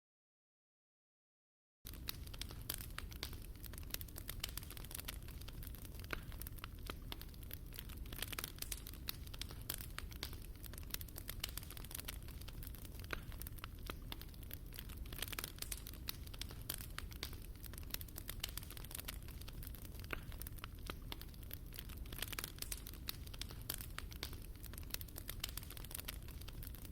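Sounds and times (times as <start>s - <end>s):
wood fire crackling: 1.9s - 26.9s.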